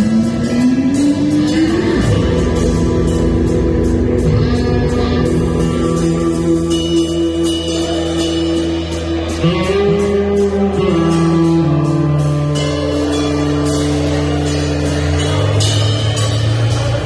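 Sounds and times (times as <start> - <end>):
live band playing loud music: 0.0 - 17.0.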